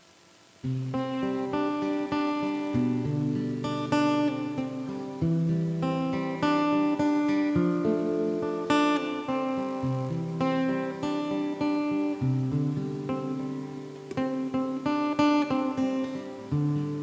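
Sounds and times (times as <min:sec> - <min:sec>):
guitar chords strummed: 0:00.6 - 0:17.0.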